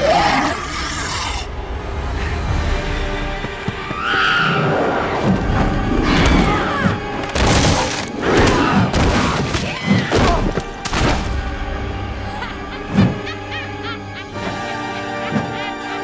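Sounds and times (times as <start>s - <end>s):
film score music: 0.0s - 16.0s.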